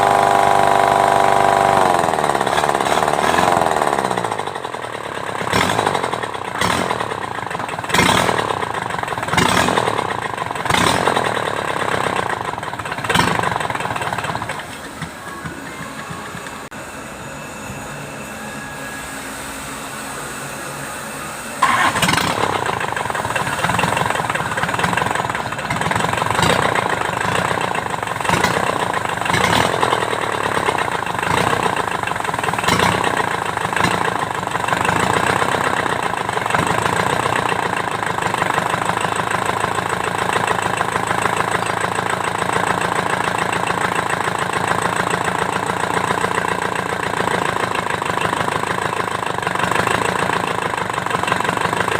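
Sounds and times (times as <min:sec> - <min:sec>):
diesel engine starting and running: 0:00.0 - 0:51.9.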